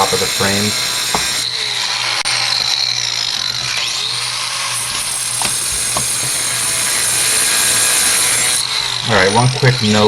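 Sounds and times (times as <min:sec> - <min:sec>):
cutting wheel whining on metal: 0:00.0 - 0:10.0.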